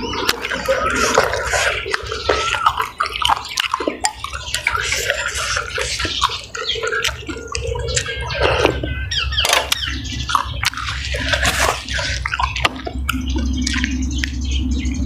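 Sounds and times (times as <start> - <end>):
person chewing and slurping: 0.0 - 15.0.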